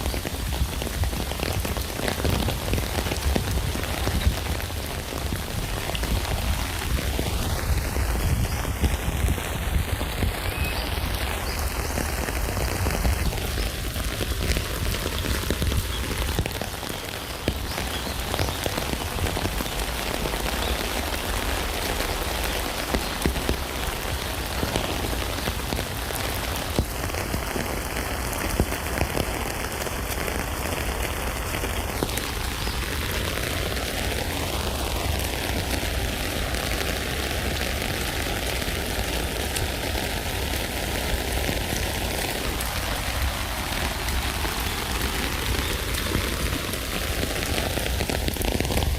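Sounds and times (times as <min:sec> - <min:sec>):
rain falling on a tent: 0:00.0 - 0:48.9.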